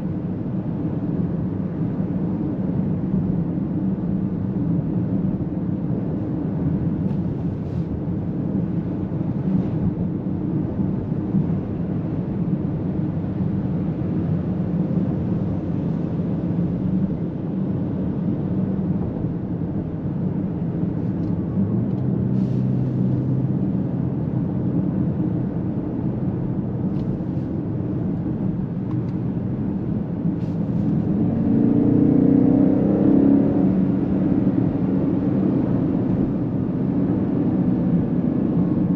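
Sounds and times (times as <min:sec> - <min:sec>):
car engine from inside cabin: 0:00.0 - 0:38.9
road noise: 0:00.0 - 0:38.9.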